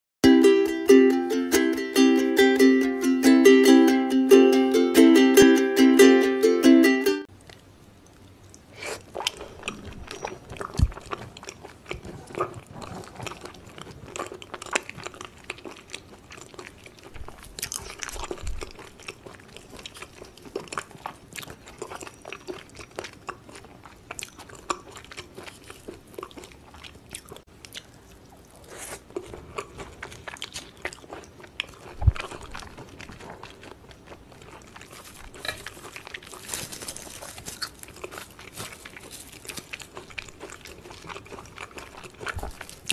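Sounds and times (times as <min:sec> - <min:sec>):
chewing and biting food: 0:07.4 - 0:42.9.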